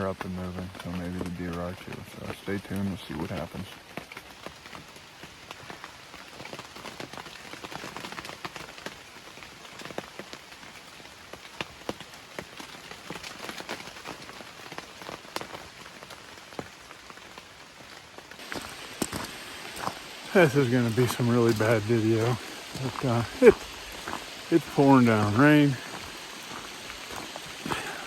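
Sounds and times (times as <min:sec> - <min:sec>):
rain drops hitting a surface: 0:00.0 - 0:28.0.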